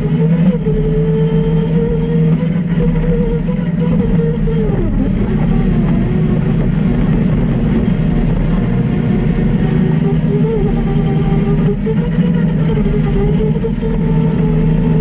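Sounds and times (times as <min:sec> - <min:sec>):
engine running hard: 0:00.0 - 0:15.0.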